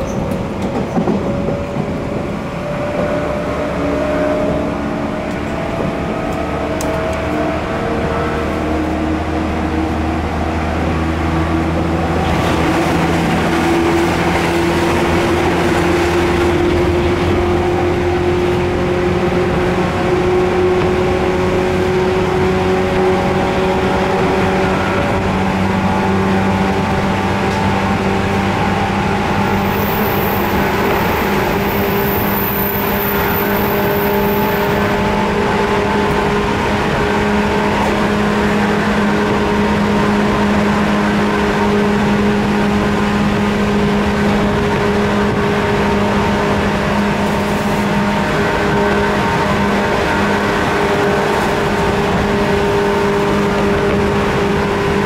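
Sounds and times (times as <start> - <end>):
rail and wheel rumble: 0.0 - 55.0
train traction motors whining: 0.0 - 55.0.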